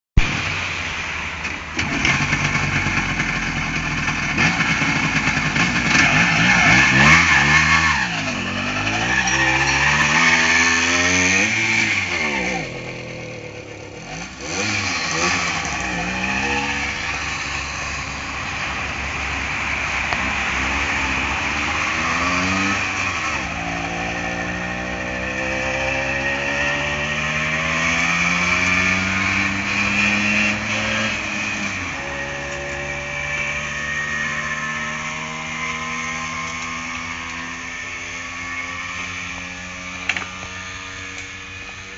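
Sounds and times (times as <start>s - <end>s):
moped engine revving: 1.8s - 41.9s.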